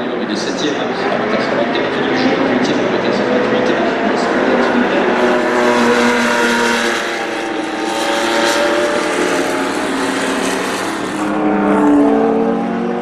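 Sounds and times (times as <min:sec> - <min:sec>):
racing car engine: 0:00.0 - 0:13.0
wind and road noise: 0:00.0 - 0:13.0.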